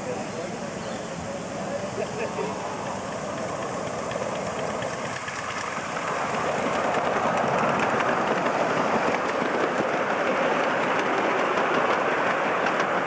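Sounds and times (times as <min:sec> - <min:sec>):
miniature steam train running: 0:00.0 - 0:13.0
wheels rattling on rails: 0:00.0 - 0:13.0.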